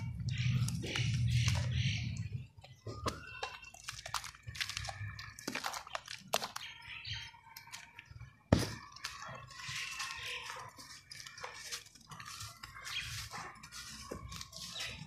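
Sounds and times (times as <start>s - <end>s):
hands squelching wet cement mud: 0.0s - 15.0s.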